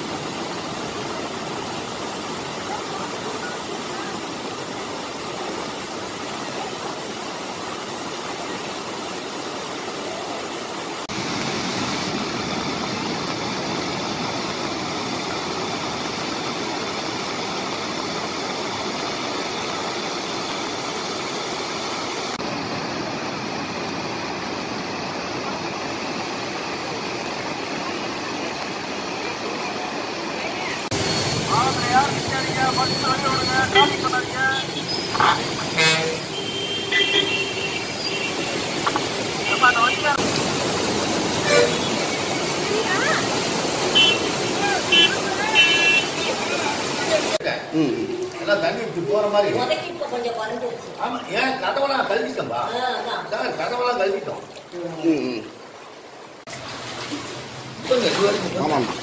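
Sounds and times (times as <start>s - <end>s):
water rushing over weir: 0.0s - 59.0s.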